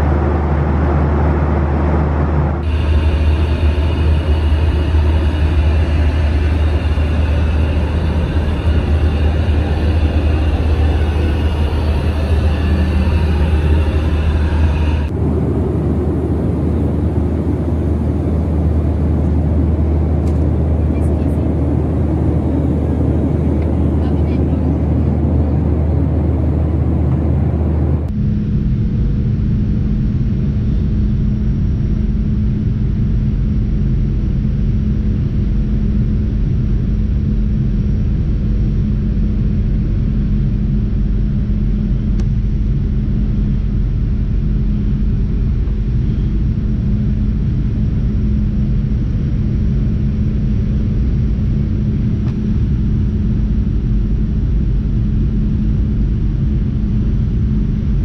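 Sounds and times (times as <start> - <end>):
airplane cabin engine rumble: 0.0 - 58.0
constant drone tone: 0.0 - 58.0.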